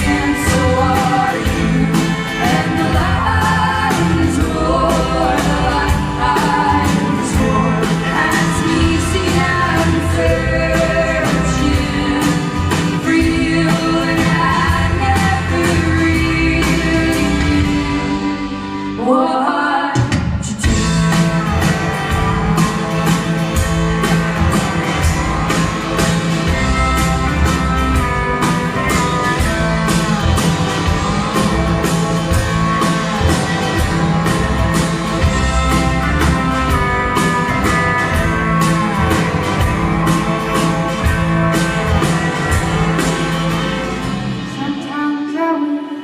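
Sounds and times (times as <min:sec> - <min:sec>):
live folk-rock band playing: 0:00.0 - 0:46.0.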